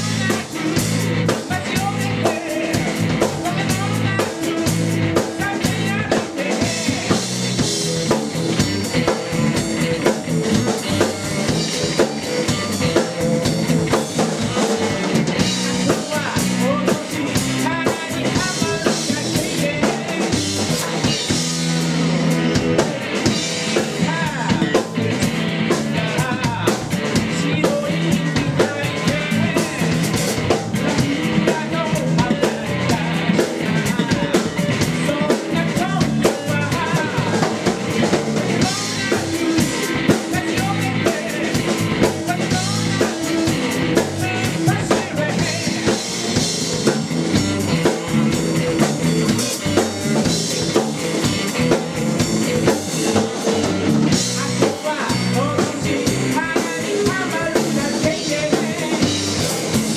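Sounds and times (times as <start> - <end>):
drum kit steady beat: 0.0 - 59.9
electric bass: 0.0 - 59.9
electric guitar: 0.0 - 59.9.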